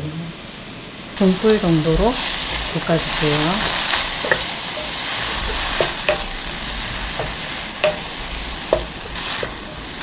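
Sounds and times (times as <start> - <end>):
vegetables sizzling in oil: 0.1 - 10.0
spatula scraping and knocking pan: 1.9 - 10.0.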